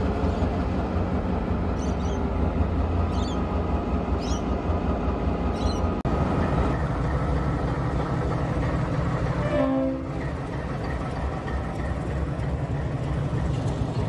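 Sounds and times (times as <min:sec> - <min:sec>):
diesel locomotive engine running: 0:00.0 - 0:14.0
diesel locomotive rumbling: 0:00.0 - 0:14.0.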